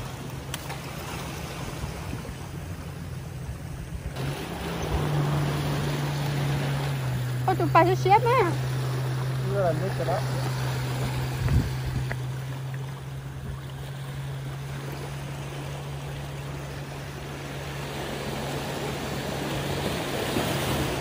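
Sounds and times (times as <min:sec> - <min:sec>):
sea water washing against rocks: 0:00.0 - 0:21.0.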